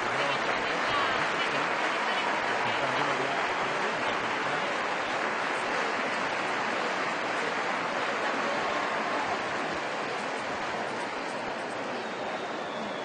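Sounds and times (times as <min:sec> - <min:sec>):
audience applause: 0:00.0 - 0:13.0
crowd noise: 0:00.0 - 0:13.0.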